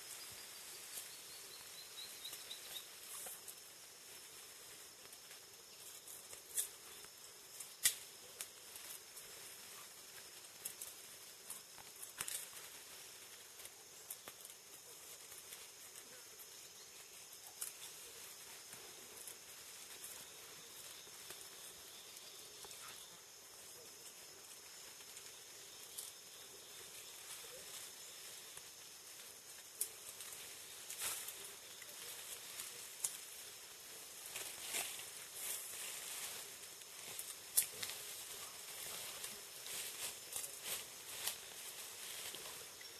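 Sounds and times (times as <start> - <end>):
high insect hum: 0.0 - 42.9
twigs and leaves crackling: 0.2 - 42.9.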